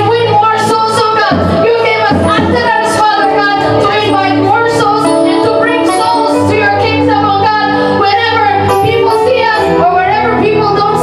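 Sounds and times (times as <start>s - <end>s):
chordal accompaniment with bass: 0.0s - 11.0s.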